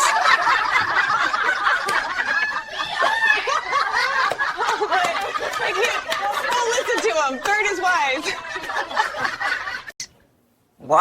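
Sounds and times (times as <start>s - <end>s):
people laughing and snickering: 0.0s - 10.0s.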